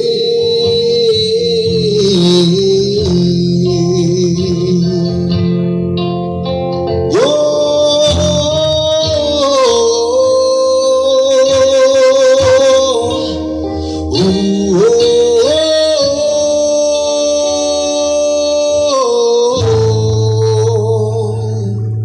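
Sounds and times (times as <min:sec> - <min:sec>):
song with singing over speakers: 0:00.0 - 0:22.0.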